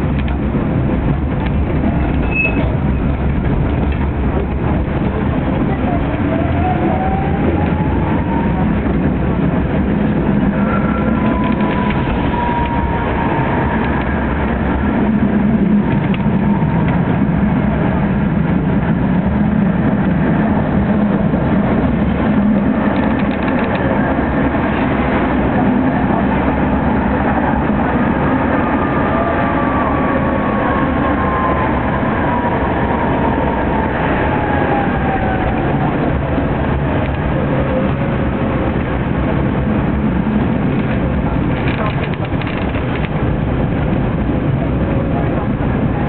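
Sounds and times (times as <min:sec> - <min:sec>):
tram rumbling on rails: 0:00.0 - 0:46.0.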